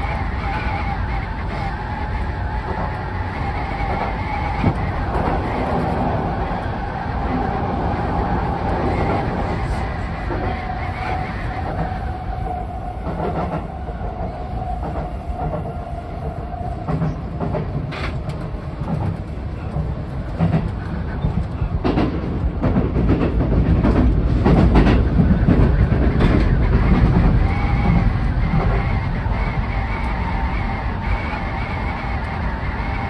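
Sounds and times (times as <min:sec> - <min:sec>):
electric train running rumble: 0:00.0 - 0:33.0.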